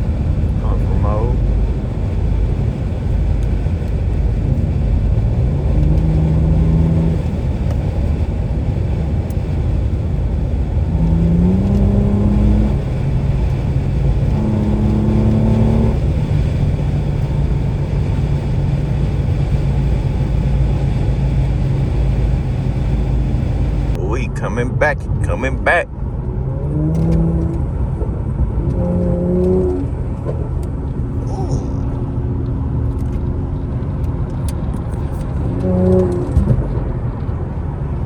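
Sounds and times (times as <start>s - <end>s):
car engine rumble: 0.0s - 38.0s.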